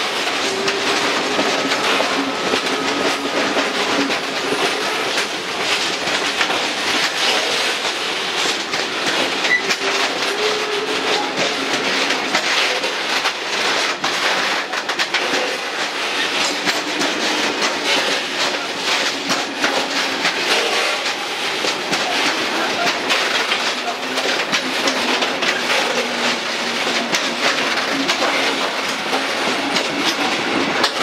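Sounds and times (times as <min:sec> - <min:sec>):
clicks over rail joints: 0:00.0 - 0:31.0
freight train wheels rumbling: 0:00.0 - 0:31.0.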